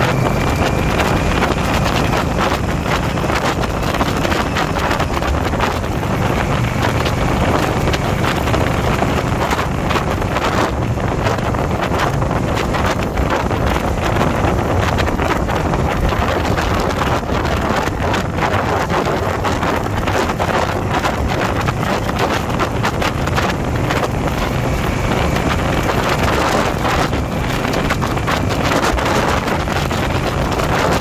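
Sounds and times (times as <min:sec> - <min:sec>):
motorcycle engine cruising: 0:00.0 - 0:31.0
wind noise on microphone: 0:00.0 - 0:31.0.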